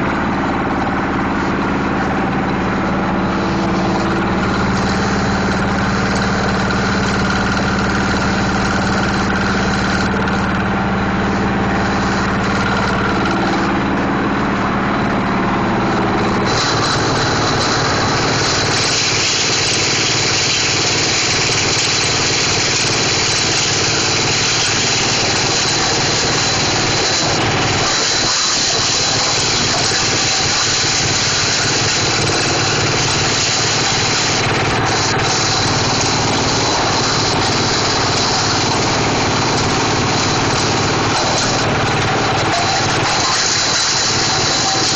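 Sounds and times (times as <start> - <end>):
plastic shredder machine running: 0.0 - 44.9.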